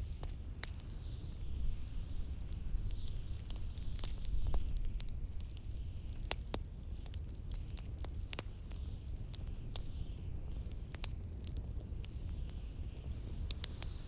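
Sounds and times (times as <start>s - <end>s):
fireplace crackling and popping: 0.0s - 14.0s.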